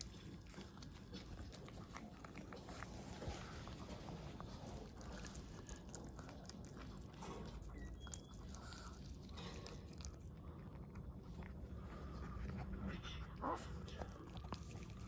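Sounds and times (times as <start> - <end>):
dog chewing and licking: 0.0 - 15.0.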